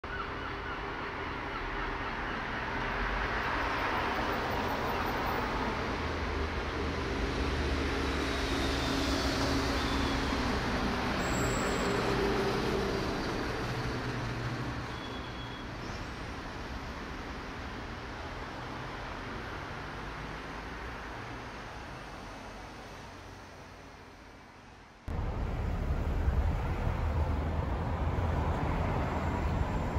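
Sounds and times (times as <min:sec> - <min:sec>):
road traffic engine hum: 0:00.1 - 0:29.9.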